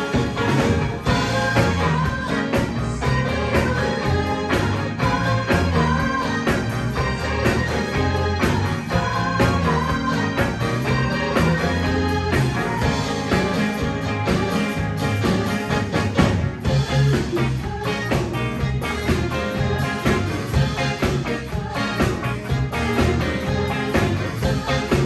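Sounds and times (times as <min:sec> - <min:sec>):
bass guitar: 0:00.0 - 0:25.0
drums: 0:00.0 - 0:25.0
organ: 0:00.0 - 0:25.0.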